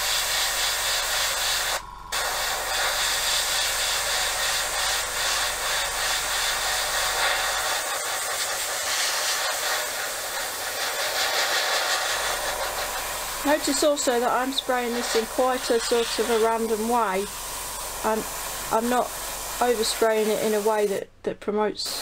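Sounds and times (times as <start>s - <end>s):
airbrush spraying hiss: 0.0s - 21.0s.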